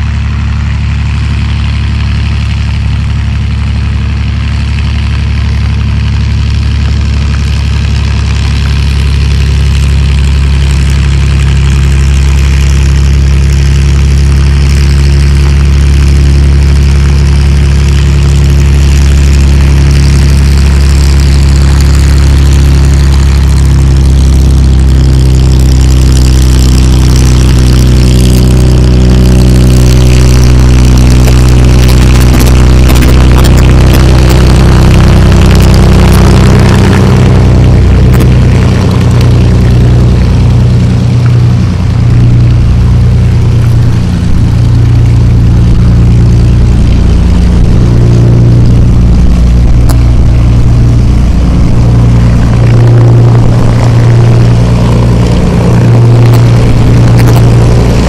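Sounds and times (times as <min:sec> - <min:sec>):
propeller plane engine droning: 0:00.0 - 0:58.0.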